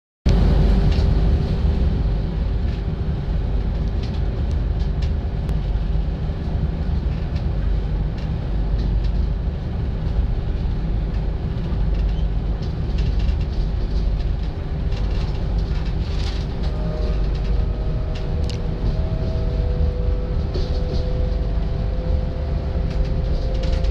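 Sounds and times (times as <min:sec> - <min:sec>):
train carriage rumbling on track: 0:00.3 - 0:23.9.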